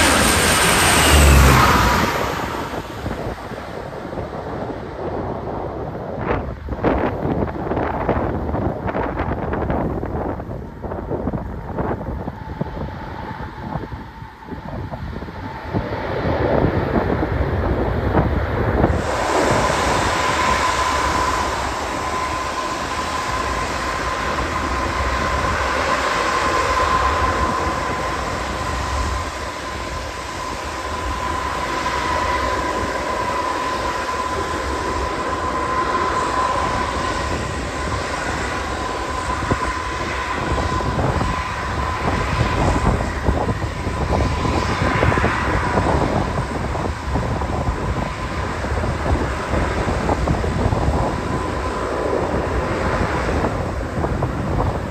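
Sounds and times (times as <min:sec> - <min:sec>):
aircraft engines running: 0:00.0 - 0:54.9
wind noise on microphone: 0:00.0 - 0:54.9.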